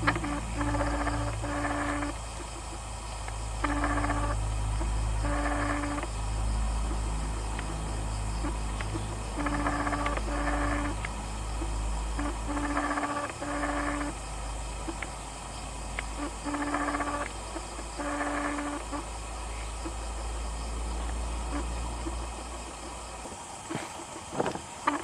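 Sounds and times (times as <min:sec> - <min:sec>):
animal hooting: 0:00.0 - 0:14.2, 0:16.1 - 0:25.0
distant machinery drone: 0:00.0 - 0:25.0.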